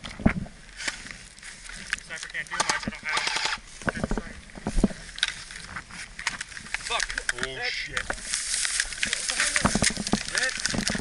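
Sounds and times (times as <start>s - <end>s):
gear rustling and clicking: 0.9s - 11.0s.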